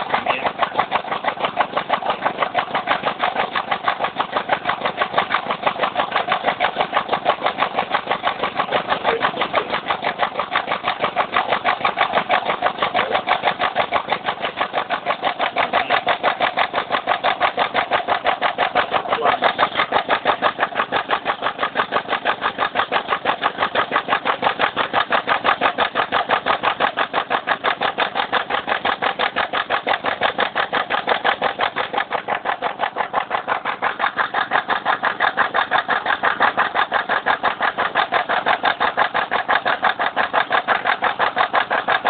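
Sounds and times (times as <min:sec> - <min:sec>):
engine idling with rapid knock: 0:00.0 - 0:42.0.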